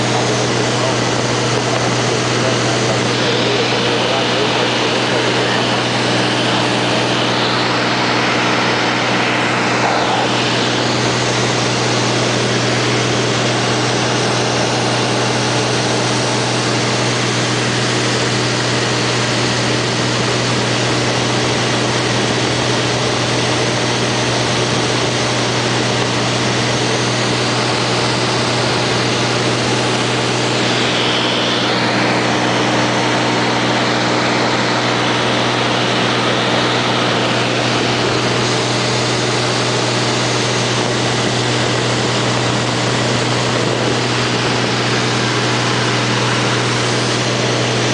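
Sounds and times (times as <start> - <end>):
aircraft engine and propeller hum: 0.0 - 47.9.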